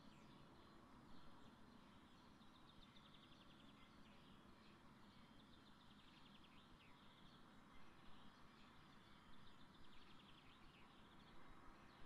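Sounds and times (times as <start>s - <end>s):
distant small birds singing: 0.0s - 12.0s
low steady background hiss: 0.0s - 12.0s.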